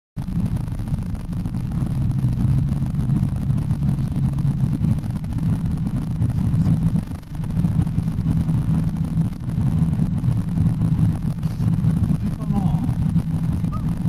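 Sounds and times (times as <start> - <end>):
engine and road noise rumble: 0.2 - 14.0
faint hum: 0.2 - 14.0.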